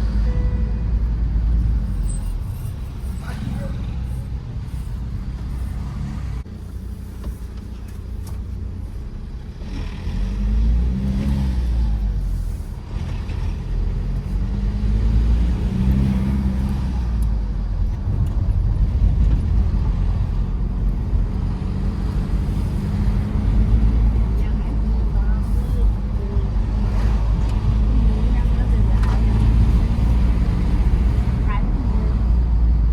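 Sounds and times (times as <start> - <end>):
diesel engine running: 0.0 - 32.9
road rumble: 0.0 - 32.9.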